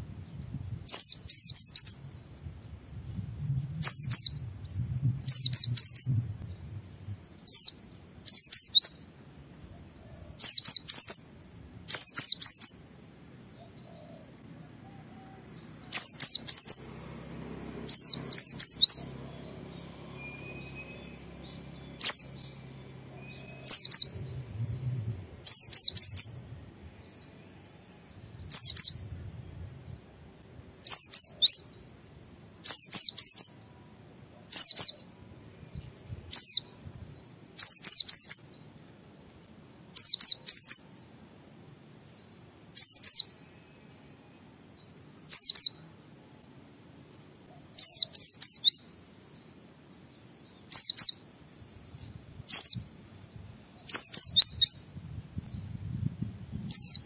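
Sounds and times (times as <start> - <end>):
bird chirping high: 0.0 - 2.4, 3.0 - 30.0, 30.8 - 38.7, 39.9 - 41.2, 42.0 - 46.0, 47.4 - 57.0.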